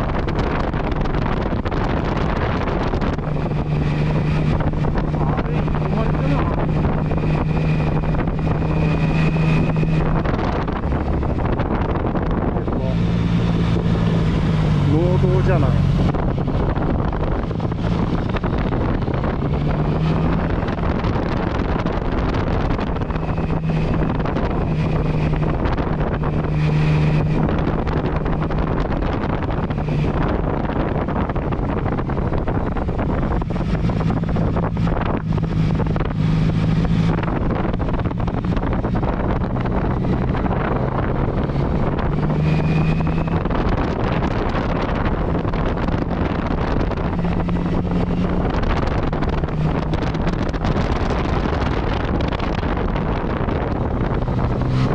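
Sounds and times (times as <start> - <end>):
motorcycle engine cruising: 0.0 - 54.9
wind rush on microphone: 0.0 - 54.9.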